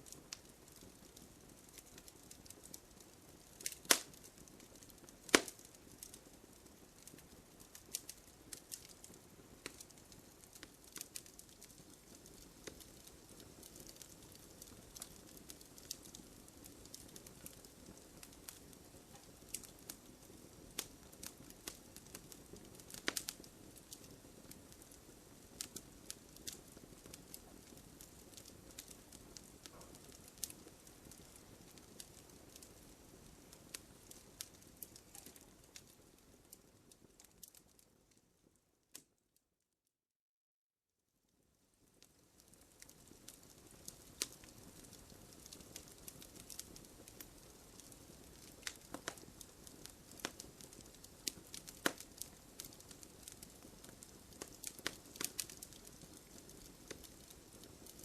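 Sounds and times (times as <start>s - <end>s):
wood fire crackling and popping: 0.0s - 39.1s, 41.9s - 58.0s.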